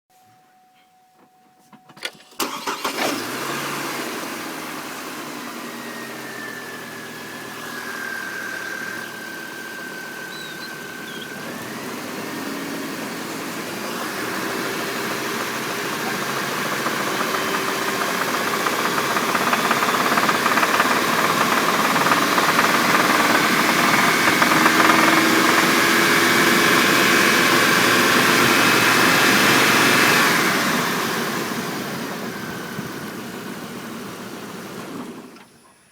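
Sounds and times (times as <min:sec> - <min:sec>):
car engine knocking: 0:04.6 - 0:34.8.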